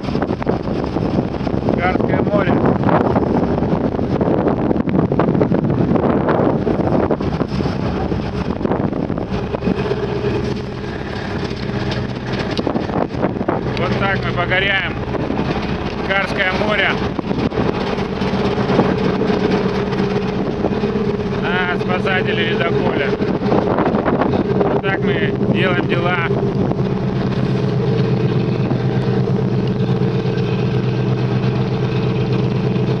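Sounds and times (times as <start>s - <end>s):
ship engines running: 0.0s - 33.0s
wind buffeting microphone: 0.0s - 33.0s.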